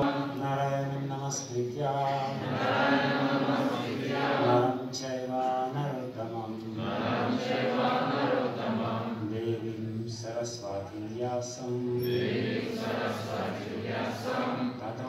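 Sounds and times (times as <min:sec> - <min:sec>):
congregation chanting in unison: 0:00.0 - 0:10.5, 0:11.8 - 0:15.0.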